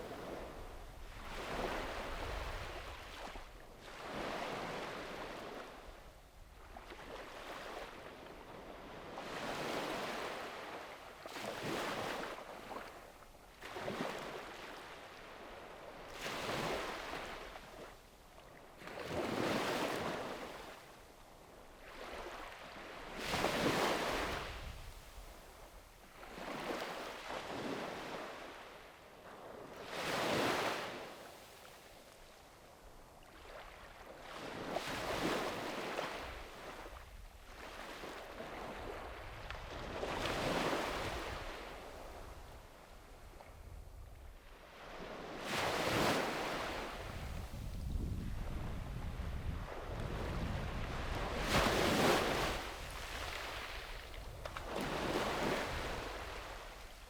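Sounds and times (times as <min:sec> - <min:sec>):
small waves breaking on sandy beach: 0:00.0 - 0:57.0.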